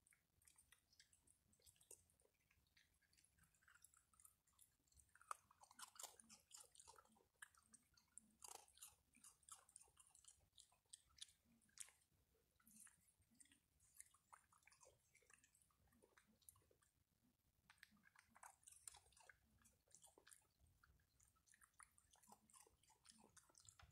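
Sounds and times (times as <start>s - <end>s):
animals chewing and crunching food: 0.0s - 23.9s.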